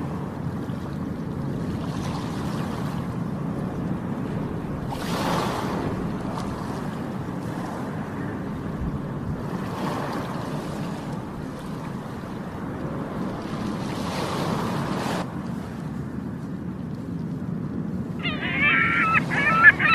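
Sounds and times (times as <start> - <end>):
sea waves washing in: 0.0 - 19.9.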